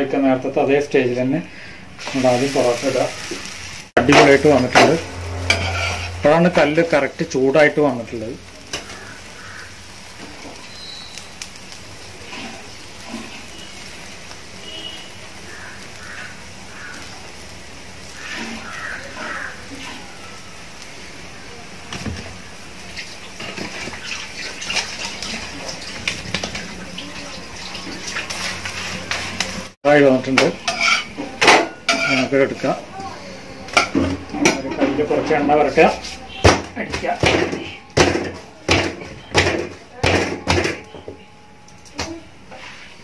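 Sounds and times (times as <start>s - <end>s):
flatbread sizzling on hot pan: 0.0s - 40.9s, 41.8s - 43.0s.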